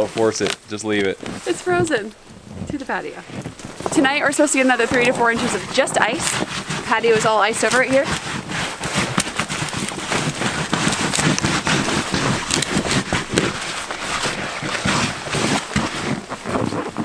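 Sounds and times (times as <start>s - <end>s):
boots crunching on icy snow: 0.0s - 17.0s.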